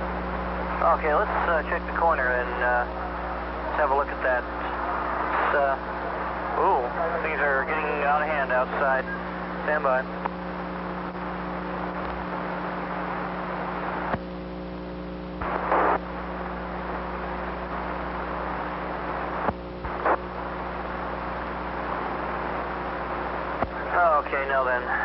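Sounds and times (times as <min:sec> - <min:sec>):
radio hiss and hum: 0:00.0 - 0:25.0.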